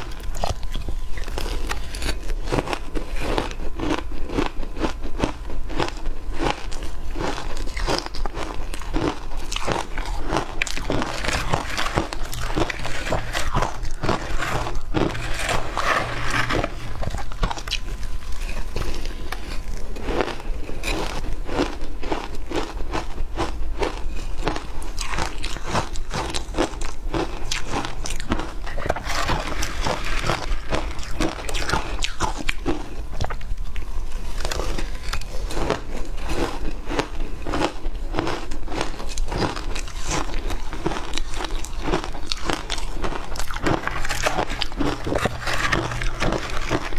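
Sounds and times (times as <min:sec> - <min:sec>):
crunching and chewing shaved ice: 0:00.0 - 0:46.9.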